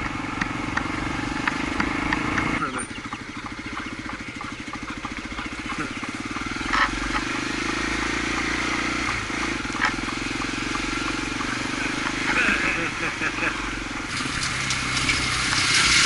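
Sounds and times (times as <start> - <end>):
motorcycle engine puttering: 0.0 - 16.0.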